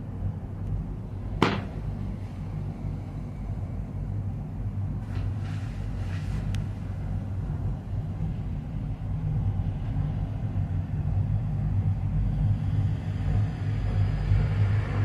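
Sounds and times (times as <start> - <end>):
gondola cabin rumble: 0.0 - 15.0.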